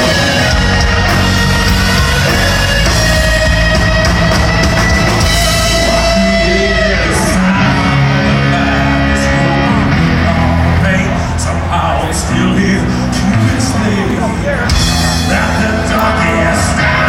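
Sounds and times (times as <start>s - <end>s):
hard rock music with singing: 0.0s - 17.0s.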